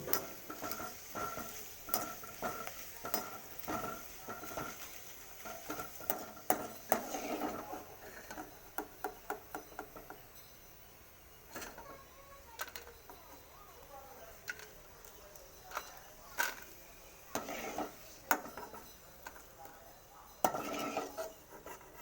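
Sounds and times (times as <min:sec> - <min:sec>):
light sizzle: 0:00.0 - 0:22.0
utensil scraping frying pan: 0:00.0 - 0:22.0.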